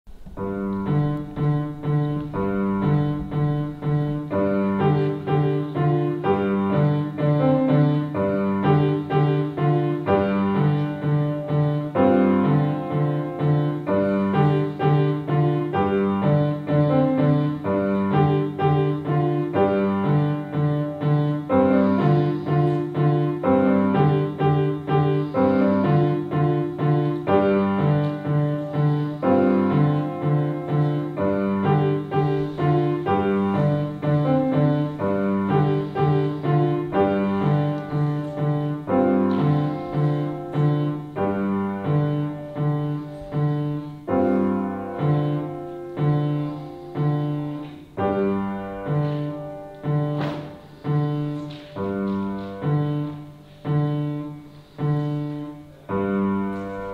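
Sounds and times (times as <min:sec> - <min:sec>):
upright piano piece: 0:00.0 - 0:56.9.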